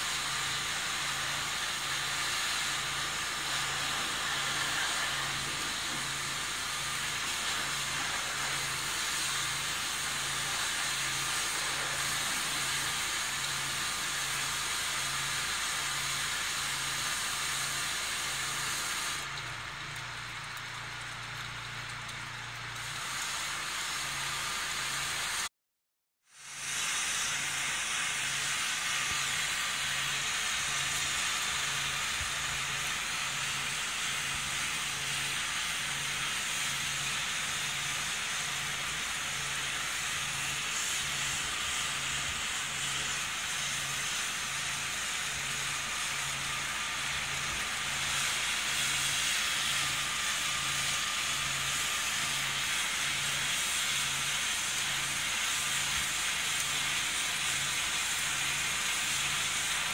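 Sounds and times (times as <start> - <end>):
heavy rain on paving: 0.0 - 25.5, 26.4 - 59.9.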